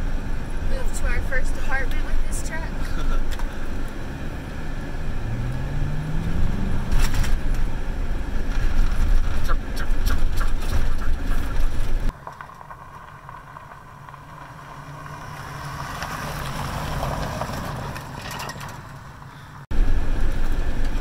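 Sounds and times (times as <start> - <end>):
engine and road noise inside cab: 0.0 - 21.0
pickup truck driving on dirt road: 0.0 - 21.0.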